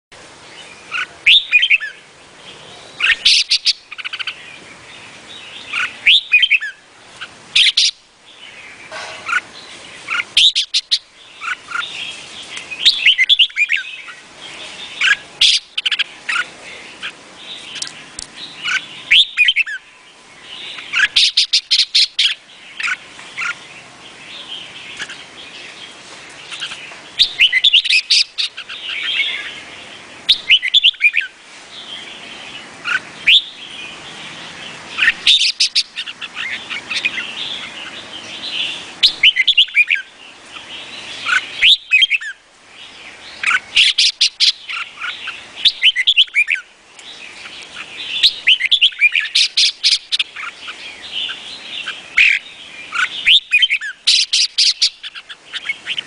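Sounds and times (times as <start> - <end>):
bird chirping phrases: 0.2 - 56.0.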